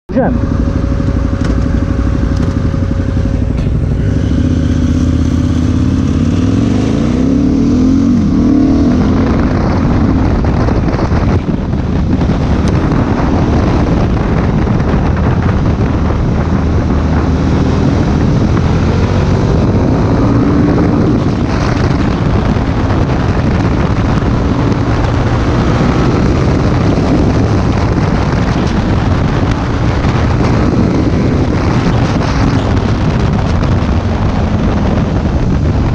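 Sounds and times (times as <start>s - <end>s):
motorcycle engine: 0.1s - 35.9s
wind rushing over microphone: 0.1s - 35.9s.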